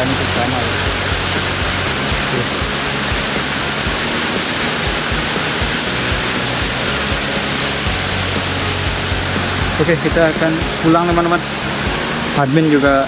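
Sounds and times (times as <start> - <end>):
soft background music: 0.0 - 13.0
waterfall pouring over rocks: 0.0 - 13.0.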